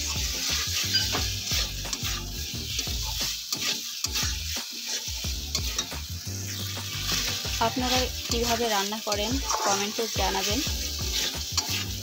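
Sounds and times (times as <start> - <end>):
hot oil sizzling: 0.0 - 12.0
metal spatula scraping pan: 0.0 - 12.0.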